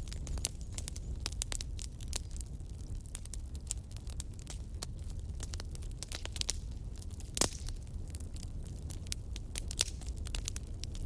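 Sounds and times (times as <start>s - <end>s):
campfire crackling and popping: 0.0s - 11.0s
low rumble of flames: 0.0s - 11.0s.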